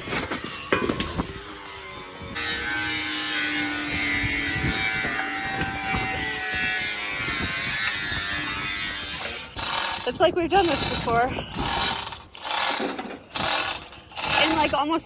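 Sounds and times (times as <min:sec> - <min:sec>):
angle grinder running: 0:00.0 - 0:14.9.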